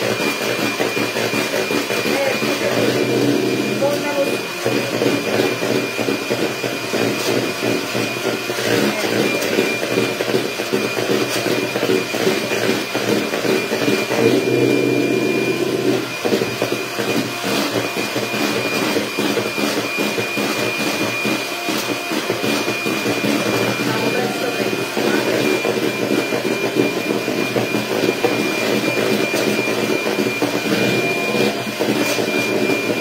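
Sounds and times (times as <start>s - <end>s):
electric mixer running: 0.0s - 33.0s.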